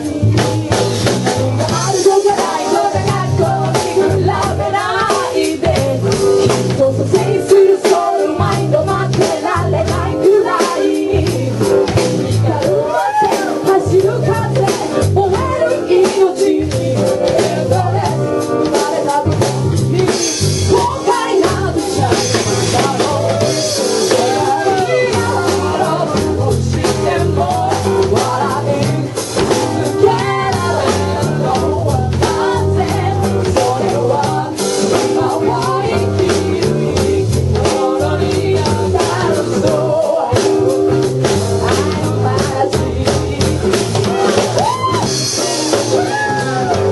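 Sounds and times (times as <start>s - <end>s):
live band playing: 0.0s - 46.9s.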